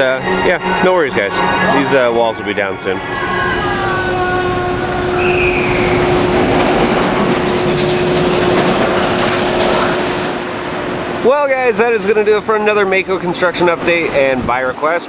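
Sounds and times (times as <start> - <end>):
steady hum: 0.0 - 14.3
roller coaster train rushing past: 0.0 - 15.0.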